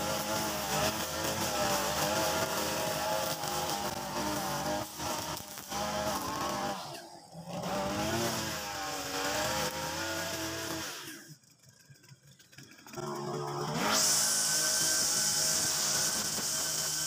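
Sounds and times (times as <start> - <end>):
brush cutter engine revving: 0.0 - 17.0
trimmer line cutting grass: 0.0 - 17.0.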